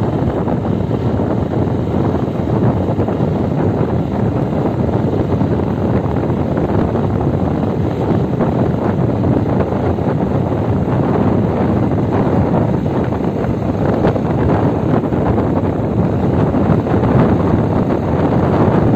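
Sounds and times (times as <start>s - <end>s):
moving vehicle rumble: 0.0s - 18.9s
wind rush on microphone: 0.0s - 18.9s.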